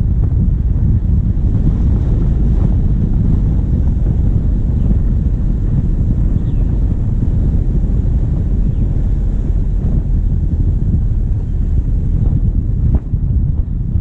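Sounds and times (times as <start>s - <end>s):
diesel engine running: 0.0s - 14.0s
wind buffeting microphone: 0.0s - 14.0s.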